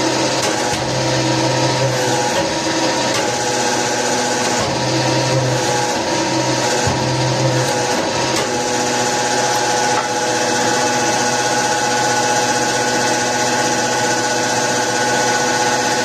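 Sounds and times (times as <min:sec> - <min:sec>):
press motor whining: 0:00.0 - 0:16.0.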